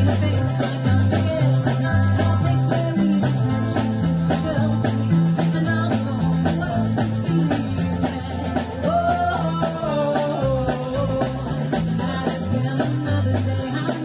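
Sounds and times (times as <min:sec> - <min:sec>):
live rock and roll band playing: 0:00.0 - 0:14.0
steady drum beat: 0:00.0 - 0:14.0
walking bass line: 0:00.0 - 0:14.0.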